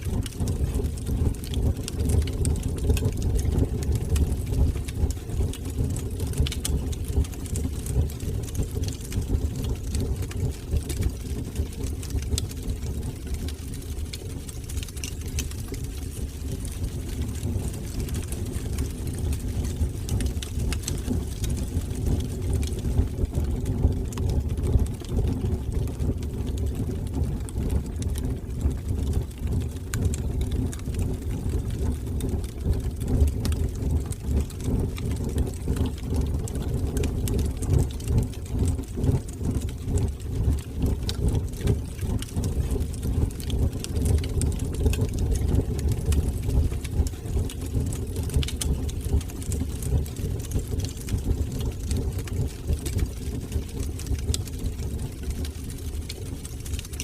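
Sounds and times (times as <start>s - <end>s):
wood fire burning: 0.0s - 57.0s.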